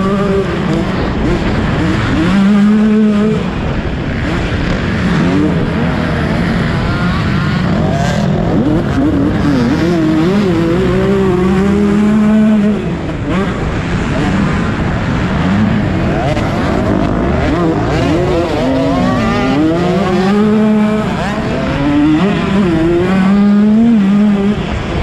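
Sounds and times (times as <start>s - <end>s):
motocross bike engine revving: 0.0s - 25.0s
steady rush of noise: 0.0s - 25.0s.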